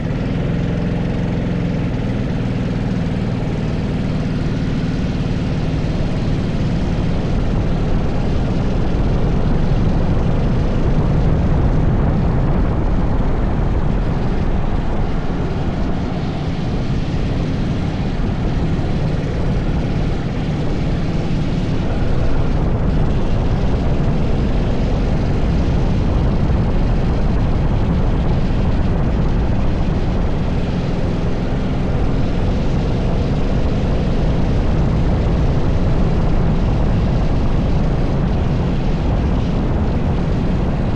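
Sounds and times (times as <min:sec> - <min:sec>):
go-kart engine running: 0:00.0 - 0:40.9
wind rumble on microphone: 0:00.0 - 0:40.9.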